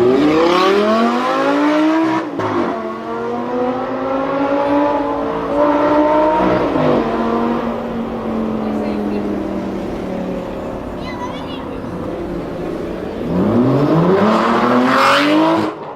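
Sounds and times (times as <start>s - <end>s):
sports car engine revving: 0.0s - 15.9s.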